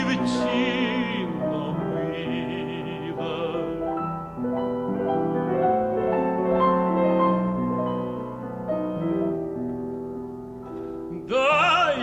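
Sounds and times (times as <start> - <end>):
piano playing sustained chords: 0.0 - 12.0.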